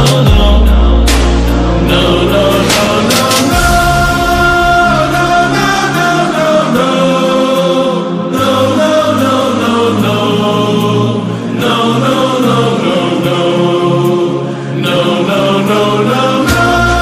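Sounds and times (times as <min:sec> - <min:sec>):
chanted singing over a beat: 0:00.0 - 0:17.0.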